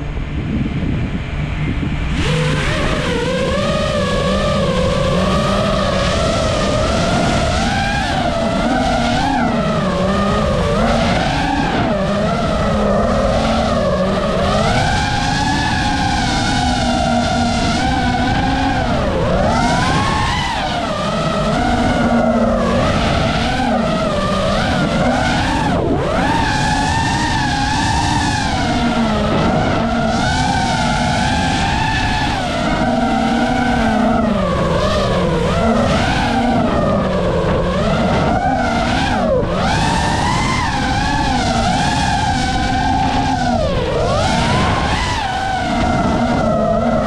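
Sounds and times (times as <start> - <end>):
quadcopter motors whining: 0.0 - 47.0.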